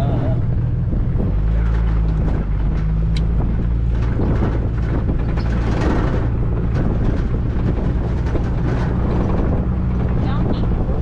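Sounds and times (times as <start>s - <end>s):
car engine running: 0.0s - 11.0s
road and wind noise: 0.0s - 11.0s.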